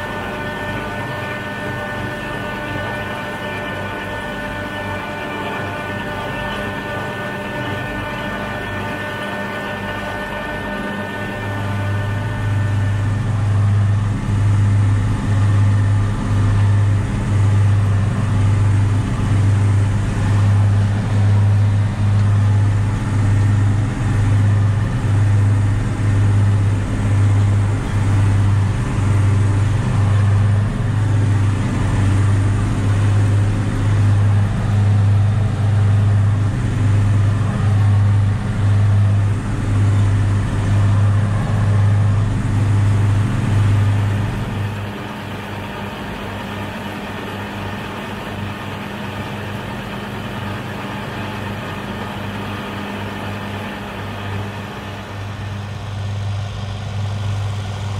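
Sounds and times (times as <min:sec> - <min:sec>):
tractor diesel engine drone: 0:00.0 - 0:57.9.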